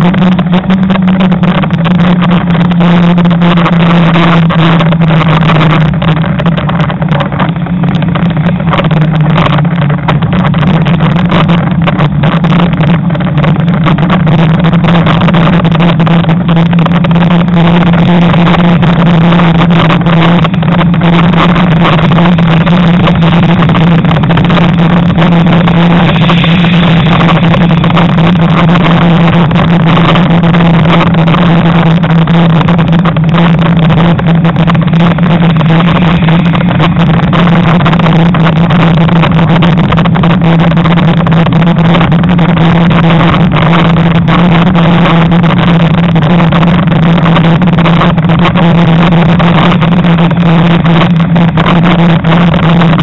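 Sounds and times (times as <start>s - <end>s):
steady low hum: 0.0s - 53.0s
wind buffeting microphone: 0.0s - 53.0s.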